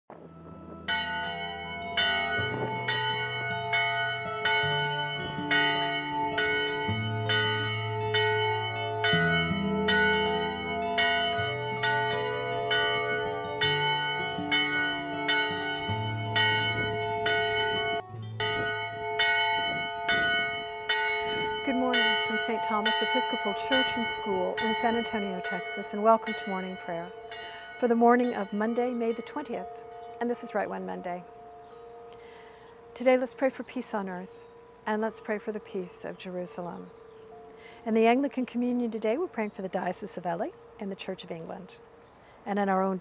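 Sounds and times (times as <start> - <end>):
church bell ringing: 0.1 - 41.8
low held notes: 0.1 - 43.0.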